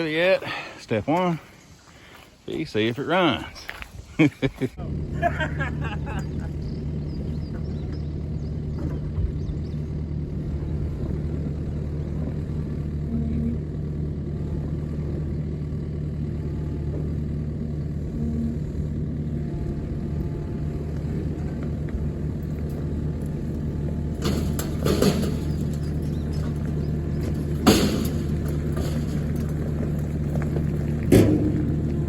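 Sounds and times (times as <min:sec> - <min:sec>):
vehicle engine droning: 0:00.0 - 0:32.0
loud rattling clatter: 0:05.0 - 0:18.2, 0:18.8 - 0:32.0.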